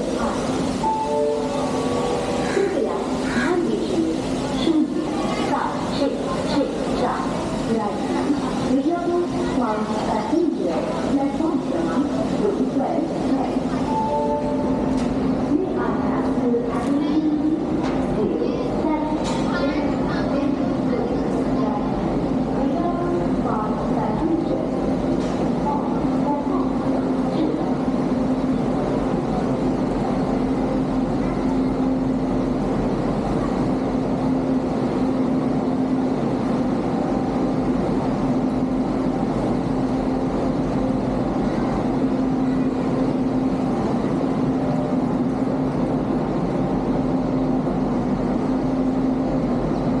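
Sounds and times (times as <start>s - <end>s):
train engine droning: 0.0s - 50.0s.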